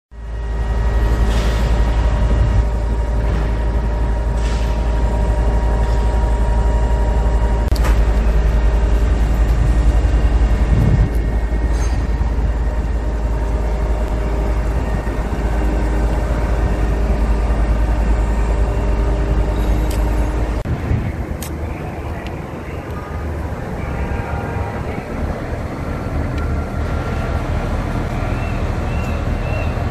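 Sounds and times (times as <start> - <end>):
heavy machinery engine rumble: 0.1 - 29.9.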